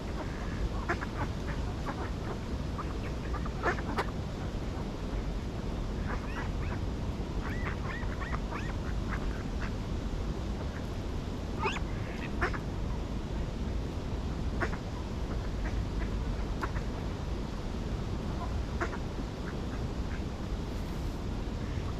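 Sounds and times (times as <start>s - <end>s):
low background rumble: 0.0s - 21.9s.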